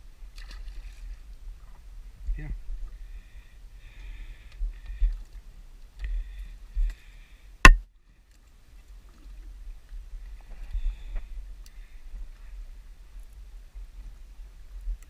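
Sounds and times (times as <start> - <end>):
water and wind against boat hull: 0.0 - 15.0.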